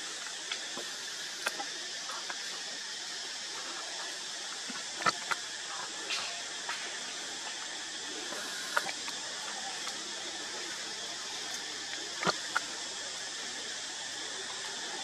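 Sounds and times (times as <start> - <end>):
high-pitched outdoor hiss: 0.0 - 15.0.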